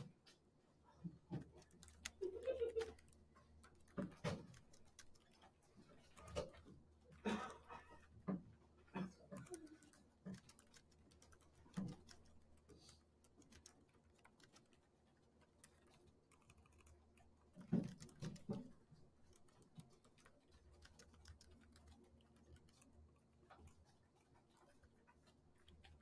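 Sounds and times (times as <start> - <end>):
computer keyboard typing: 1.2 - 8.1, 9.0 - 26.0.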